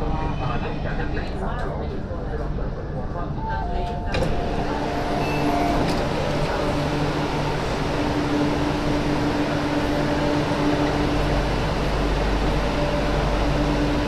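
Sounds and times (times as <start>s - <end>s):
low hum of train machinery: 0.0s - 14.0s
train carriage rumble: 0.0s - 14.0s.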